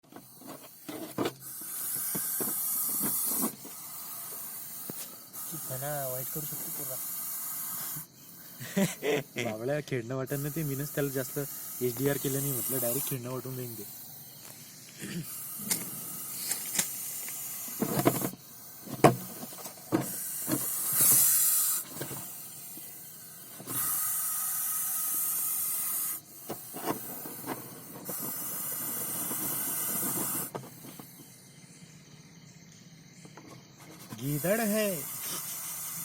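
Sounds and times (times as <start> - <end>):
snake hissing: 0.2 - 9.5, 10.2 - 32.3, 34.2 - 36.0.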